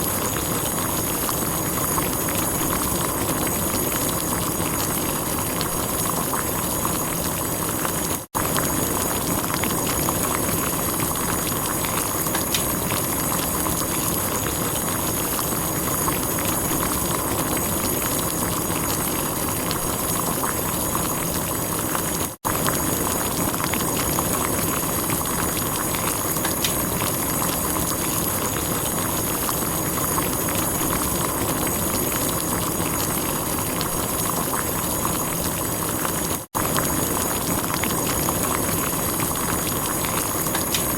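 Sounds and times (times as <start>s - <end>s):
water boiling and bubbling: 0.0s - 40.9s.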